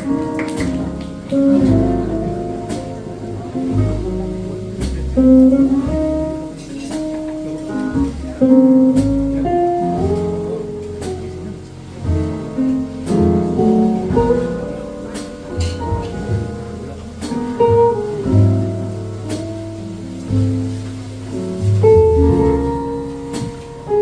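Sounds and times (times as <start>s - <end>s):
bass notes: 0.0s - 24.0s
electric guitar: 0.0s - 24.0s
jazz quartet playing live: 0.0s - 24.0s.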